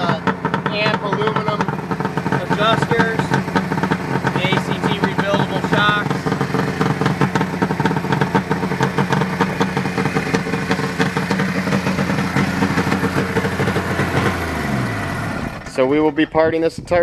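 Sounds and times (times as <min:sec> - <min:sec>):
snowmobile engine idling: 0:00.0 - 0:15.9.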